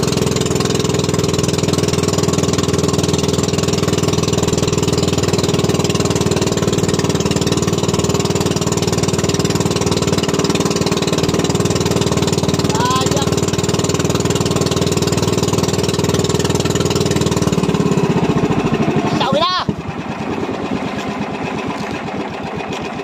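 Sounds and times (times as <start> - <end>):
boat engine pulsing hum: 0.0 - 23.0.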